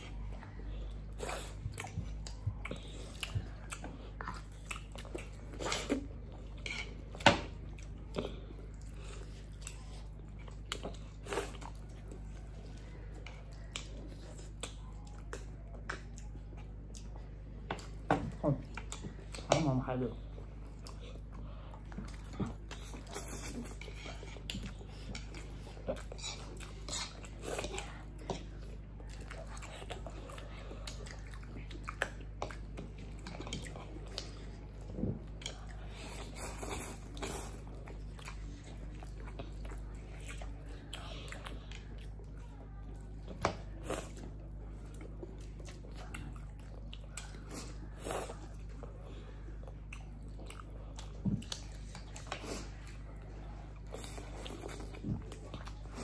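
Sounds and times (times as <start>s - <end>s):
people chewing with wet mouth sounds: 0.0s - 56.0s.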